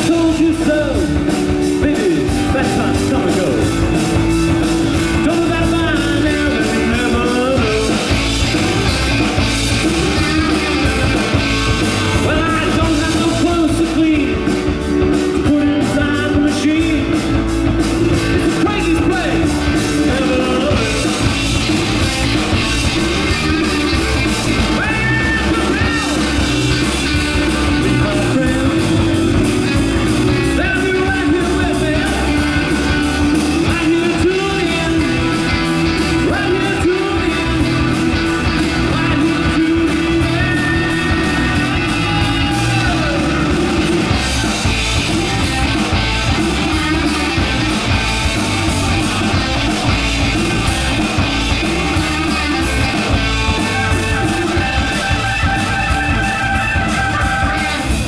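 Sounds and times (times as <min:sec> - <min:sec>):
rock song: 0:00.0 - 0:58.0
person singing: 0:05.0 - 0:09.0, 0:09.8 - 0:17.4, 0:18.1 - 0:48.0, 0:48.8 - 0:58.0.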